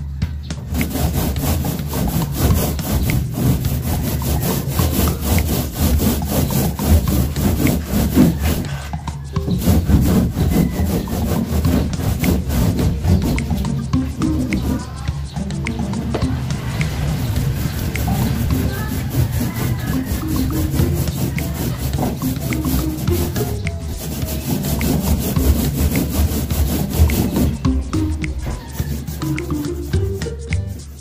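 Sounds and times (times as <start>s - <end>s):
paintbrush scrubbing on wood: 0.7s - 15.2s, 15.8s - 31.0s.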